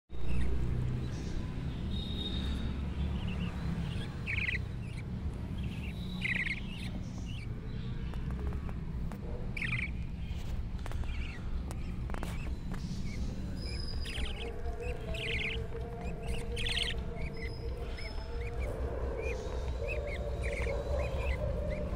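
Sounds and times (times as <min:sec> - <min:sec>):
bird chicks chirping: 0:00.1 - 0:21.9.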